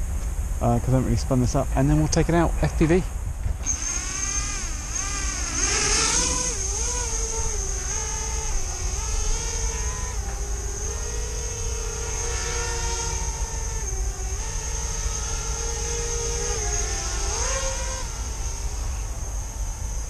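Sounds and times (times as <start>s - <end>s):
quadcopter motors buzzing whine: 0.0s - 20.0s.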